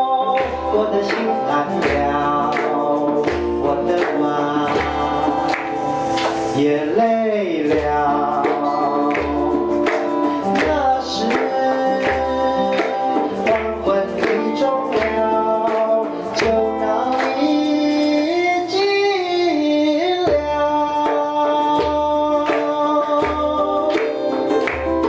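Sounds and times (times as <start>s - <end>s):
instrumental accompaniment with beat: 0.0s - 25.0s
man singing into a microphone: 0.0s - 25.0s.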